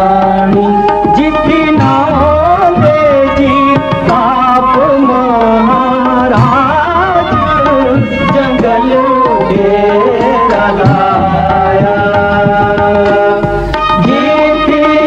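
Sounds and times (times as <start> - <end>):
hand drum rhythm: 0.0 - 14.3
sustained folk melody: 0.0 - 15.0.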